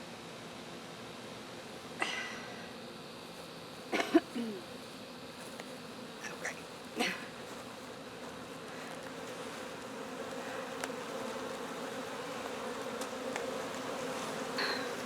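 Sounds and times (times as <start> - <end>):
honeybees buzzing: 1.0 - 15.0.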